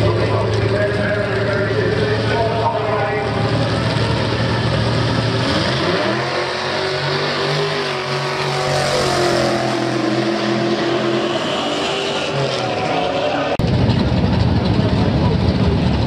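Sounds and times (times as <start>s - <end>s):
drag racing engines accelerating: 0.0s - 16.0s.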